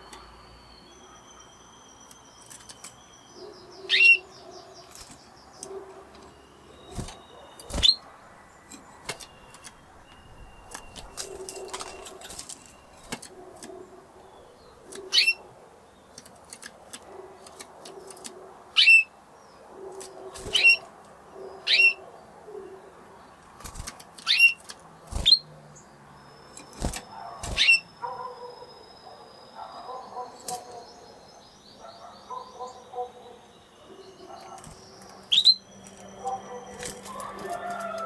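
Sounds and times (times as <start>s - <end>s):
canary calls: 0.8s - 8.2s, 8.9s - 19.2s, 19.8s - 23.1s, 24.2s - 25.5s, 26.4s - 38.0s.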